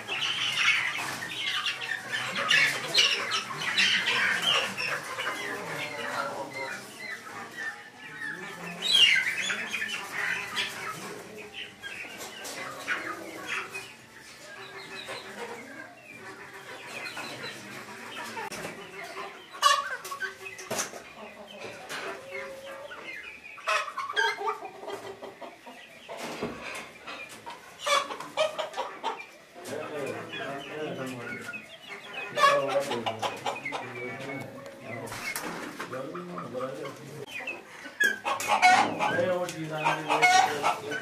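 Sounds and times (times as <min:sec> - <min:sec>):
chickens clucking and calling: 0:00.0 - 0:41.0.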